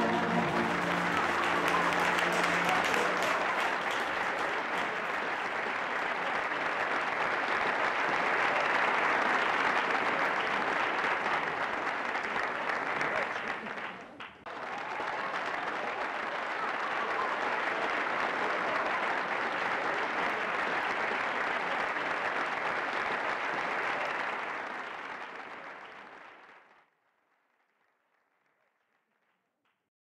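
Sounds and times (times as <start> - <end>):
audience applauding: 0.0 - 26.7.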